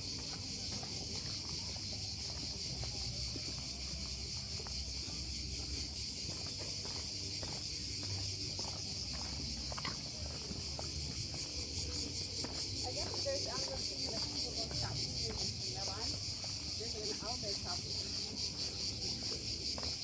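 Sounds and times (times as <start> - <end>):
faint footsteps on path: 0.0 - 20.0
high insect chorus: 0.0 - 20.0.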